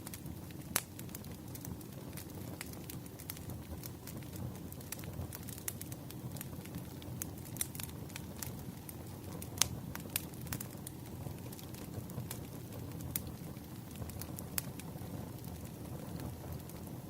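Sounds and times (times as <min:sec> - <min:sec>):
crackles and pops of burning logs: 0:00.0 - 0:17.0
low rumble of flames: 0:00.0 - 0:17.0.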